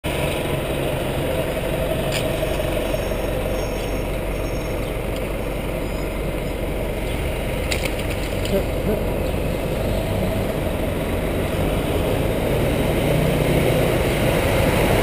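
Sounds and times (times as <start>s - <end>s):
bus engine rumbling: 0.0s - 15.0s
street traffic: 0.0s - 15.0s.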